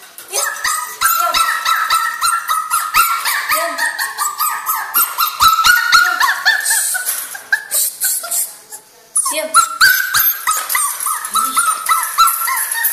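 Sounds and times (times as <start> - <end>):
puppy whimpering and yelping: 0.3 - 12.9.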